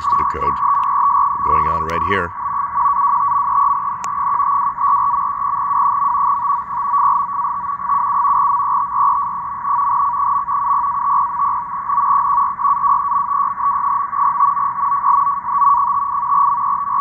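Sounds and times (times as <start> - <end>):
radio static hiss: 0.0 - 17.0
warbling two-tone data signal: 0.0 - 17.0.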